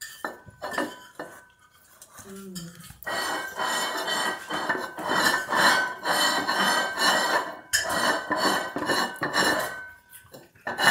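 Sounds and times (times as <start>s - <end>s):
plate scraping on tiles: 0.0s - 10.9s.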